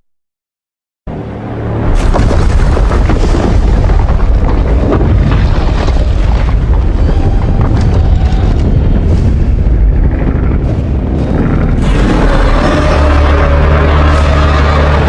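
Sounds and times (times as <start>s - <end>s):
rumbling blast with crackles: 1.8s - 15.0s.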